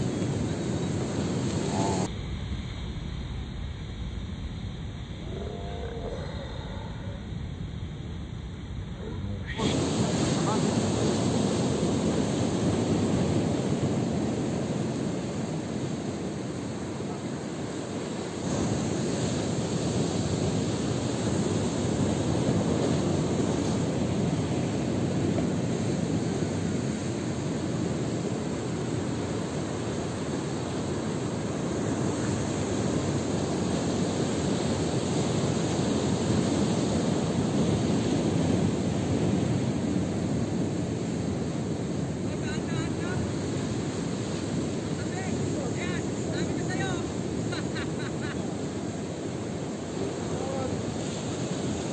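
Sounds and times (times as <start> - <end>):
sea surf on rocks: 0.0 - 2.1, 9.1 - 51.9
wind: 0.0 - 51.9.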